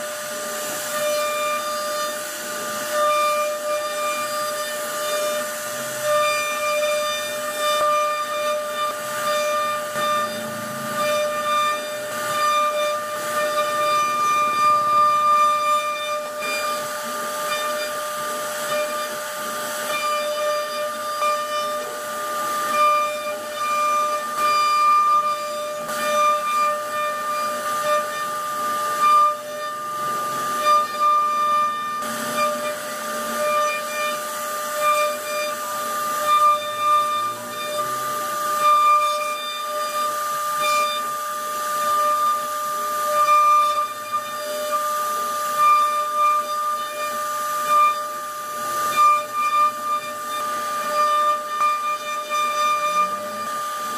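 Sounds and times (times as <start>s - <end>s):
bit cutting wood: 0.0s - 53.9s
router spindle whining: 0.0s - 53.9s.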